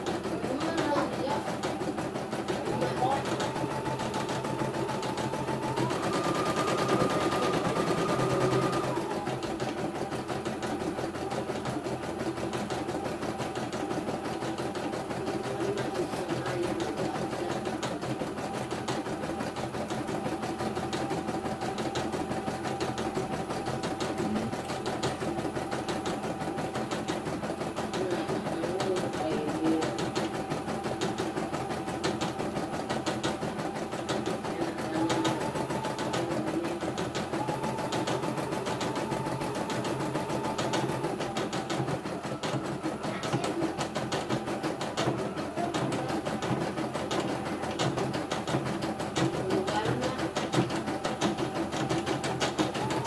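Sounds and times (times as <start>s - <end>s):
embroidery machine needle chatter: 0.0s - 53.0s.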